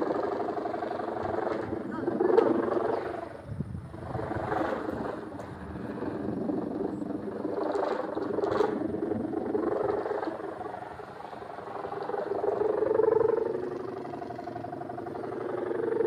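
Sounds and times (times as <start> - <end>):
kite humming drone: 0.0 - 16.0.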